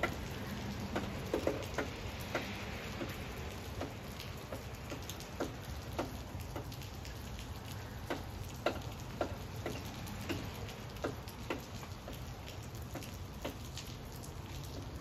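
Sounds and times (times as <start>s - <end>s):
heavy raindrops landing close: 0.0s - 15.0s
steady rain falling: 0.0s - 15.0s.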